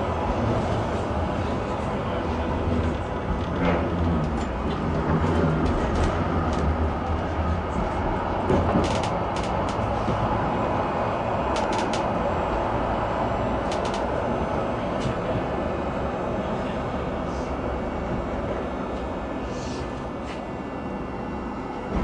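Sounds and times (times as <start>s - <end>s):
tram rumbling along track: 0.0s - 22.0s.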